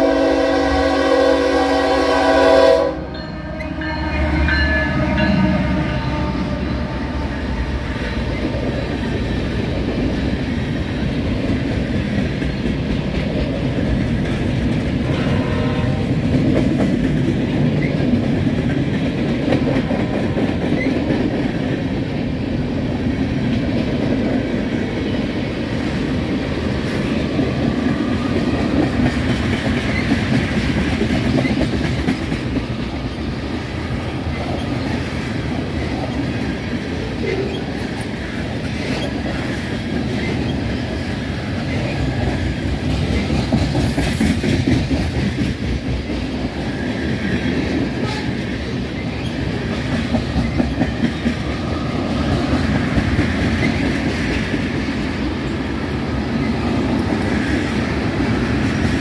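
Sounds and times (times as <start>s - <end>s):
diesel locomotive passing: 0.0s - 59.0s
freight cars wheels clickety-clack: 8.2s - 59.0s.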